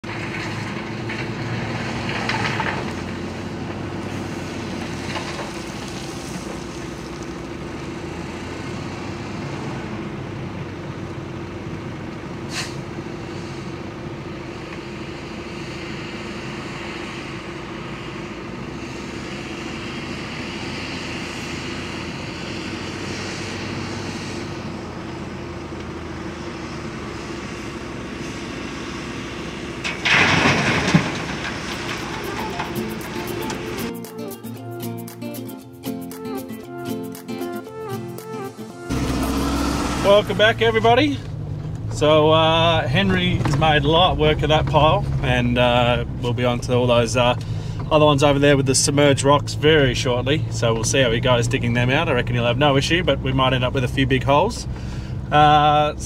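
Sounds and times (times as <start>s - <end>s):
wheel loader engine droning: 0.0s - 56.0s.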